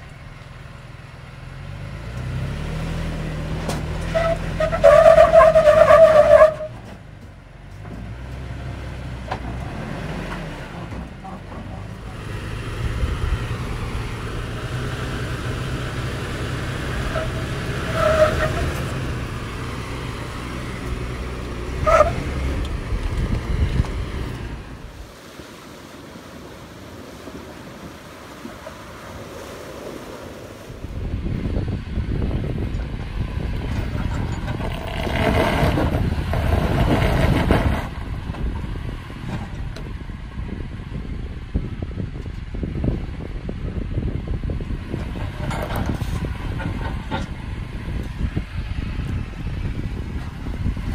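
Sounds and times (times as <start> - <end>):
truck engine running at low speed: 0.0 - 50.9
wind buffeting microphone: 2.9 - 50.9.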